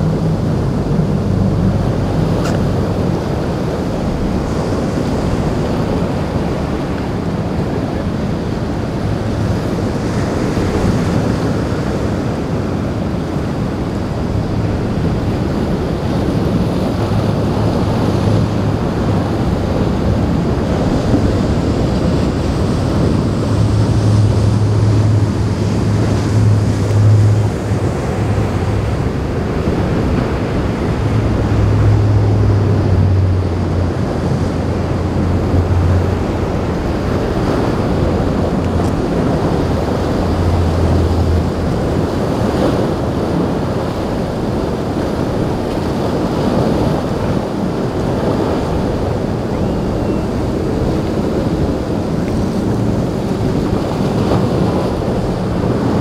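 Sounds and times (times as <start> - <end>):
boat engine drone: 0.0 - 56.0
wind buffeting microphone: 0.0 - 56.0.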